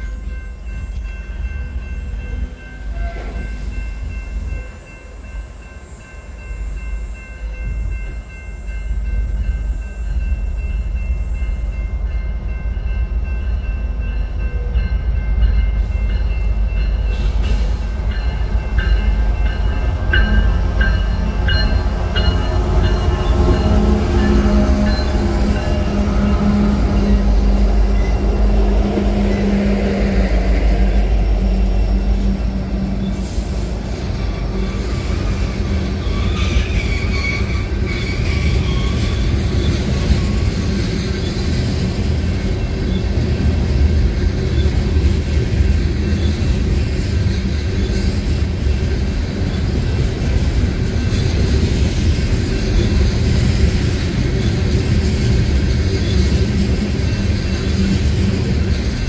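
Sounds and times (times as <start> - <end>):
diesel locomotive engine drone: 0.0 - 59.0
train wheels rumbling on rails: 0.0 - 59.0.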